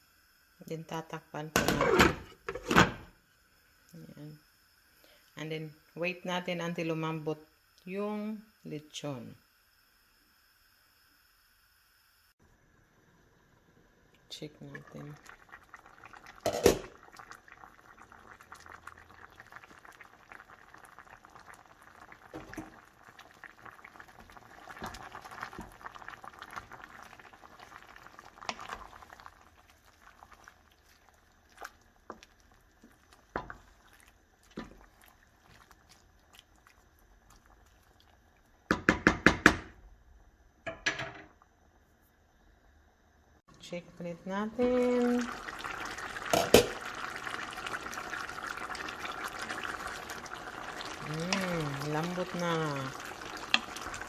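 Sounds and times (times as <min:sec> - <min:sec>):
liquid bubbling in a pot: 0:00.0 - 0:54.0.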